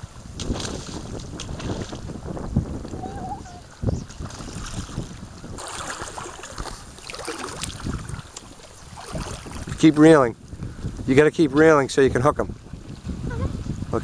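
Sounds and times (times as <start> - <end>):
water sounds: 0.0 - 14.0
wind buffeting microphone: 0.0 - 14.0.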